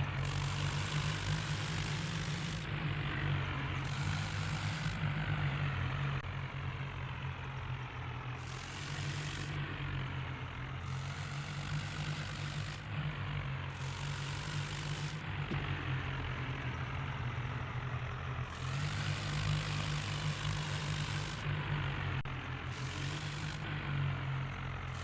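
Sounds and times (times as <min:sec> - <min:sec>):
tractor engine idling low: 0:00.0 - 0:25.0.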